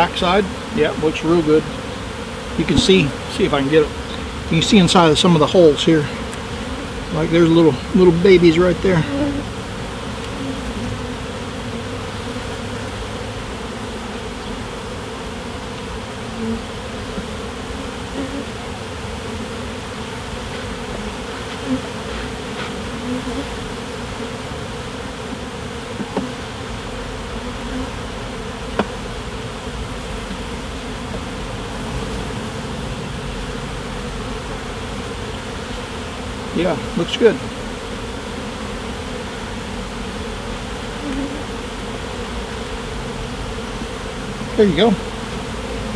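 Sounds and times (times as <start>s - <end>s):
honeybees buzzing: 0.0s - 45.9s.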